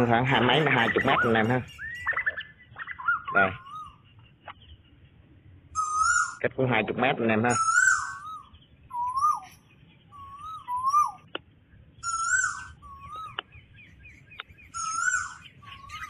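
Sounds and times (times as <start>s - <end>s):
whistled bird call from loudspeakers: 0.0s - 4.2s, 5.7s - 6.6s, 7.5s - 11.3s, 12.0s - 16.0s.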